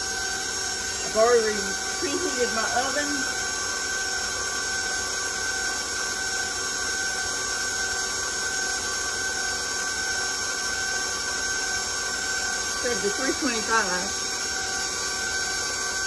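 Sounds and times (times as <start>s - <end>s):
stand mixer motor whine: 0.0s - 16.0s.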